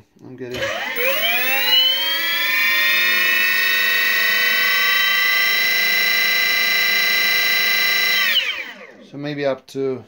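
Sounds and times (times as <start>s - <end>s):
electric motor whine: 0.6s - 9.1s.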